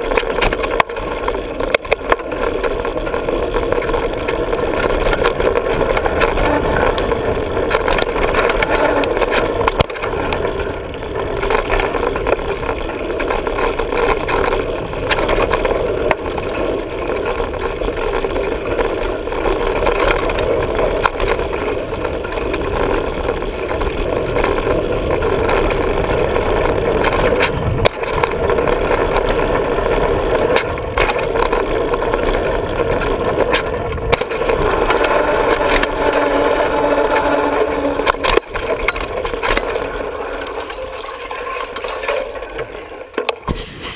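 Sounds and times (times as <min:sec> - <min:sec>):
bike knocking and rattling: 0:00.0 - 0:43.9
tyres rumbling on dirt: 0:00.0 - 0:43.9.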